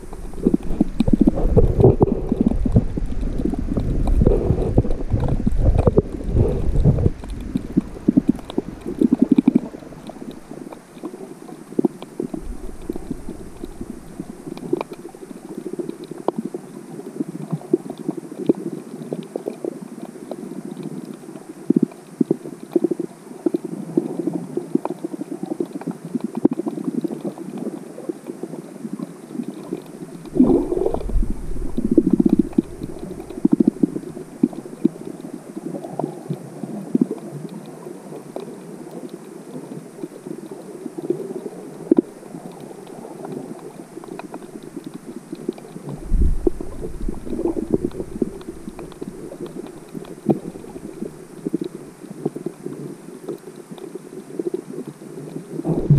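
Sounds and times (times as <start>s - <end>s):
water gurgling underwater: 0.0s - 21.0s, 21.6s - 55.9s
faint clicks: 0.0s - 55.9s.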